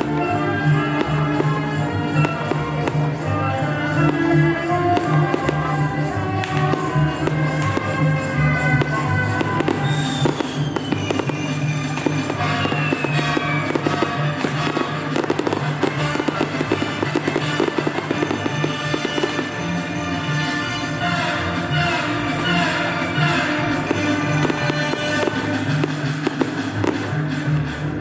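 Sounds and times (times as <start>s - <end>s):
fireworks crackling: 0.0s - 28.0s
music with bass line: 0.0s - 28.0s.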